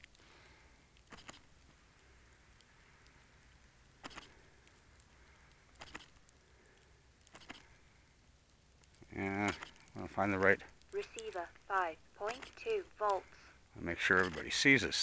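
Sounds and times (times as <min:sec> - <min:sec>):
crackling rustles: 0:00.0 - 0:15.0.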